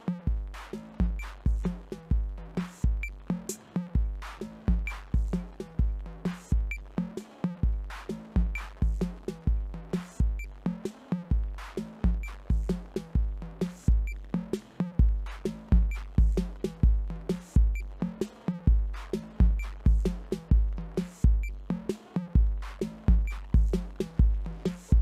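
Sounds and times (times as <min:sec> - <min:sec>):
electronic drum machine groove: 0:00.0 - 0:25.0.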